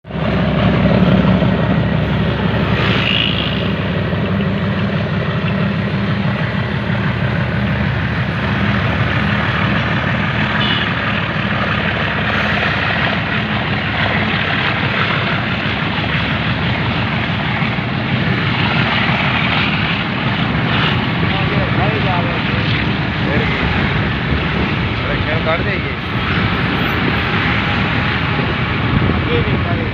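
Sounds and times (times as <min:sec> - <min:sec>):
moving train rumble: 0:00.0 - 0:29.9.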